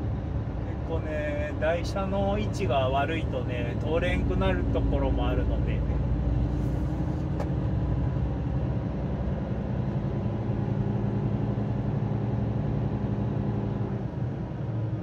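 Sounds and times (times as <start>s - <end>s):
road noise: 0.0s - 15.0s
truck diesel engine drone: 0.0s - 15.0s.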